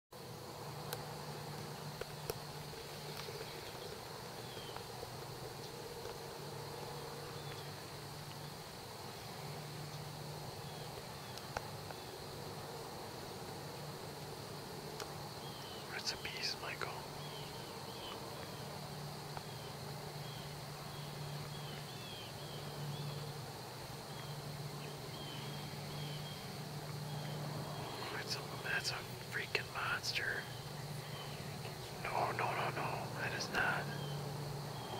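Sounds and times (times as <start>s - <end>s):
crickets trilling: 0.2s - 34.9s
low steady hum: 0.2s - 34.9s.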